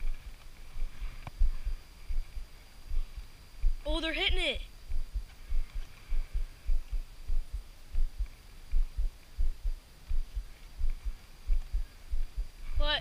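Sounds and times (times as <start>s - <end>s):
dull low thumps: 0.0s - 13.0s
faint high whine: 0.0s - 13.0s.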